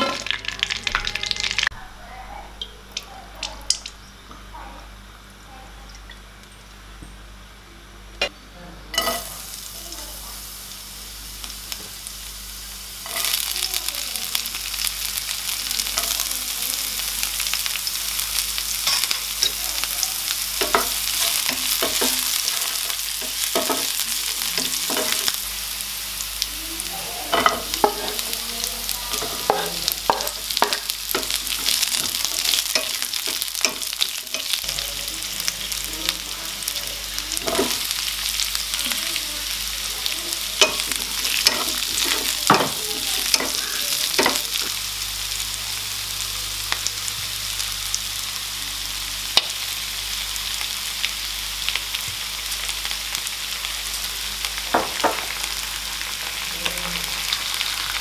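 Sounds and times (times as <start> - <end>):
garlic sizzling in hot oil: 0.0 - 1.8, 2.6 - 7.6, 8.9 - 58.0.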